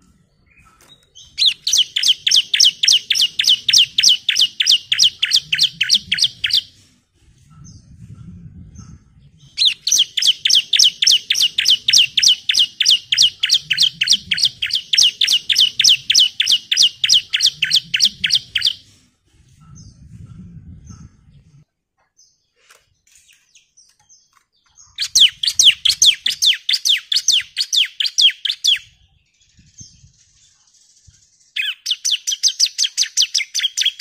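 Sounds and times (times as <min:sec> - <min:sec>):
bird singing rapid sharp notes: 0:00.3 - 0:06.7, 0:09.4 - 0:18.8, 0:22.2 - 0:34.0.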